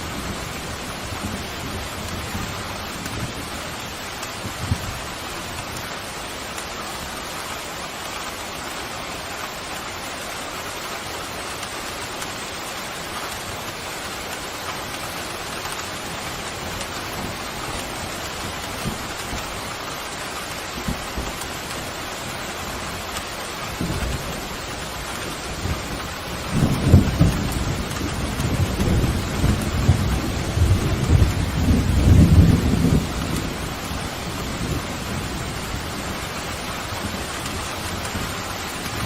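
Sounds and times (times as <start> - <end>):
steady rain: 0.0 - 39.0.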